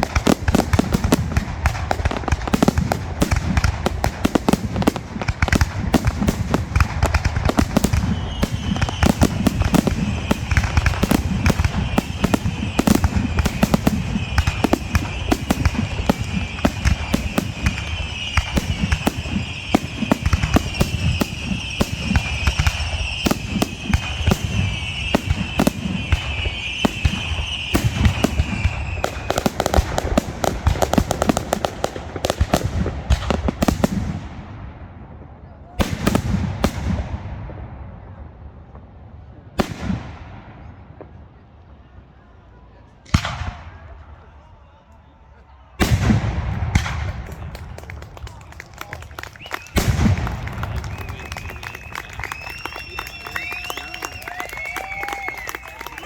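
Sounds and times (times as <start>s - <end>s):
fireworks bursts and bangs: 0.0s - 44.4s, 45.7s - 56.0s.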